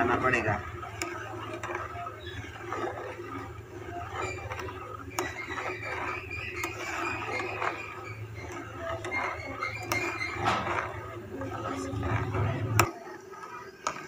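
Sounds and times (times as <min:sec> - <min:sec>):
spoon scraping cooking pot: 0:00.0 - 0:14.0.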